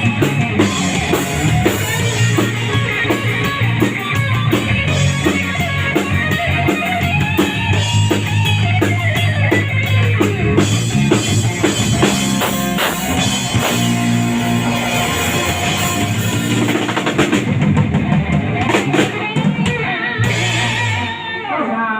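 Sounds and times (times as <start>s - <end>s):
rock band playing: 0.0s - 21.9s.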